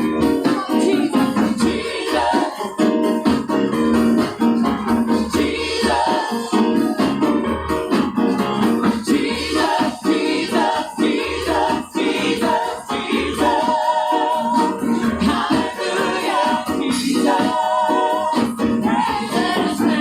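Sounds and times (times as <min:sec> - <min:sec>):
band playing: 0:00.0 - 0:20.0
choir singing in harmony: 0:00.0 - 0:20.0.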